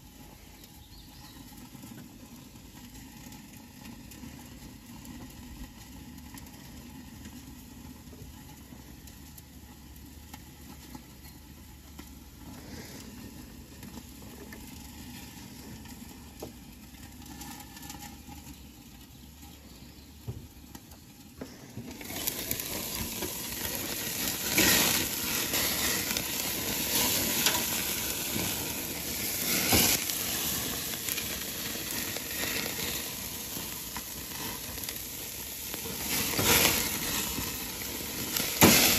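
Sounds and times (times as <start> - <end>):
steaks sizzling on a grill: 0.0 - 38.9.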